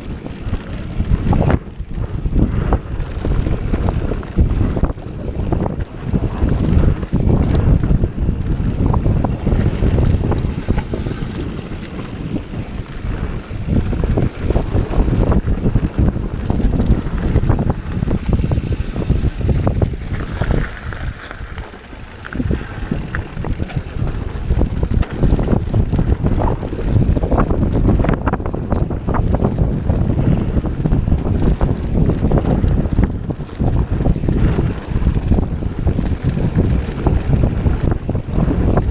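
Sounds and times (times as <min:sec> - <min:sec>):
bike knocking and rattling: 0:00.0 - 0:38.9
tyres rumbling on dirt: 0:00.0 - 0:38.9
wind buffeting microphone: 0:00.0 - 0:38.9.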